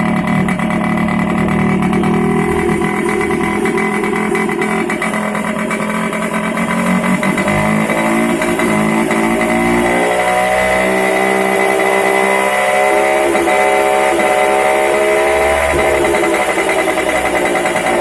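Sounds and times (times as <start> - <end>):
moped engine running: 0.0 - 18.0.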